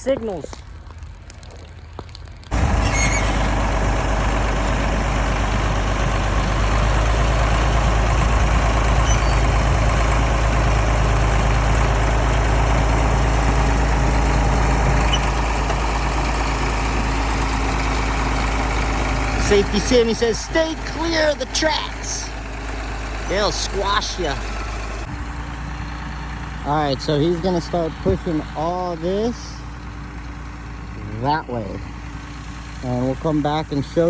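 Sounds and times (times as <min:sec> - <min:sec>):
bulldozer engine running loud: 0:00.0 - 0:34.0.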